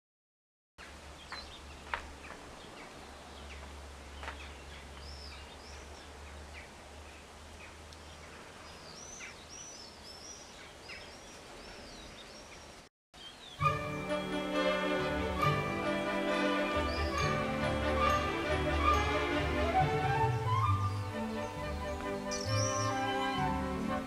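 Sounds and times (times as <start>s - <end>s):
birds chirping: 0.8s - 24.0s.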